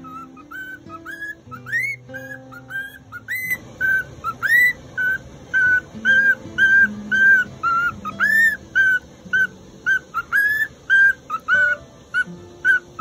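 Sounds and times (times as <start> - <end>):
cockatiel whistling: 0.0 - 13.0.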